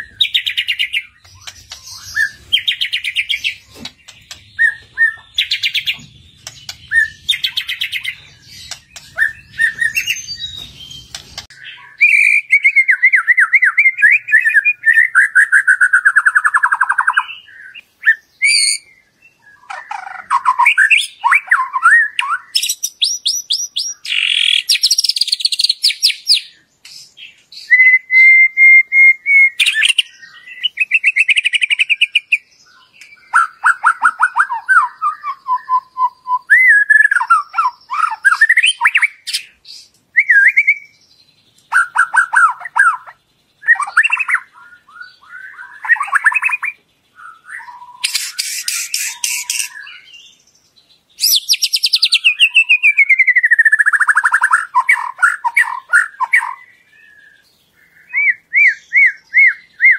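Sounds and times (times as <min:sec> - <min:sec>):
bird singing varied song: 0:00.0 - 0:59.9.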